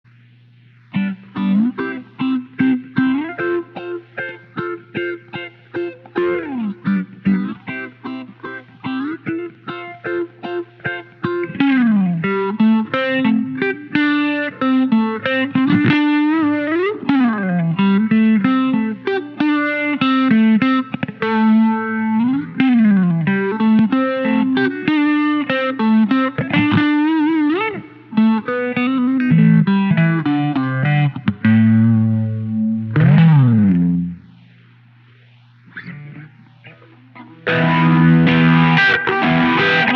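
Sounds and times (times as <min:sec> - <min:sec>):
electric guitar with phaser: 0:00.1 - 0:39.9.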